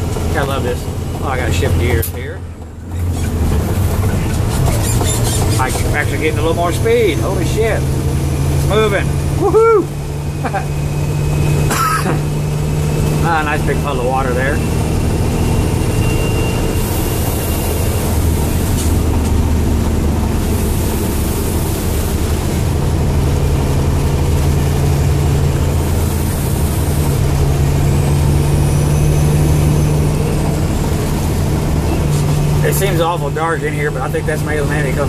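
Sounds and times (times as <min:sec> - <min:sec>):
road noise: 0:00.0 - 0:35.0
truck engine running: 0:00.0 - 0:35.0.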